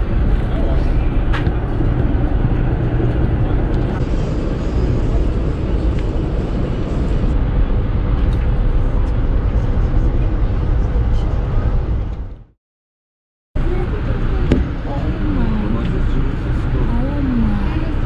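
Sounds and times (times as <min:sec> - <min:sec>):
train rumbling and rushing: 0:00.0 - 0:12.5, 0:13.6 - 0:18.0.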